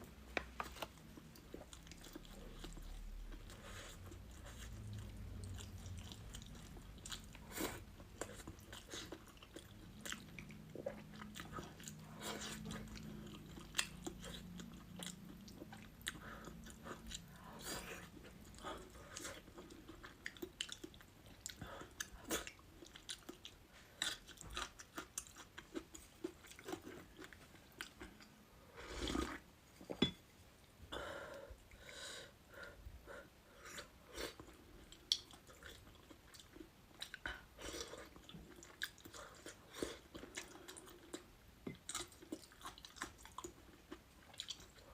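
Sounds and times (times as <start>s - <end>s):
chewing with crisp crunches: 0.6s - 28.4s, 33.7s - 44.9s.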